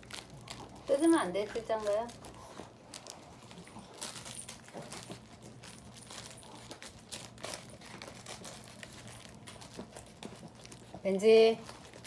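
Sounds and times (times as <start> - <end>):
dog rustling in fleece mat: 0.0 - 12.0.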